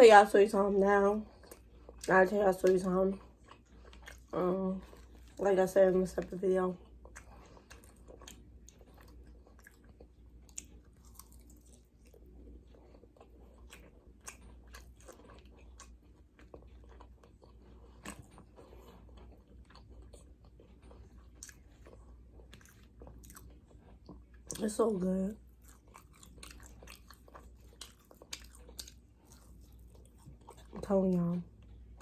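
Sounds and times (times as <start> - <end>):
steady low hum: 0.0 - 32.0
light food crunch: 0.2 - 32.0
close-up chewing: 0.3 - 32.0.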